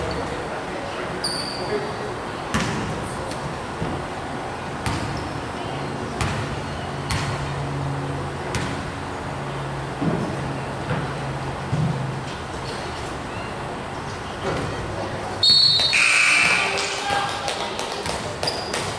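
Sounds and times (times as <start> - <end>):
gym background noise: 0.0 - 18.9.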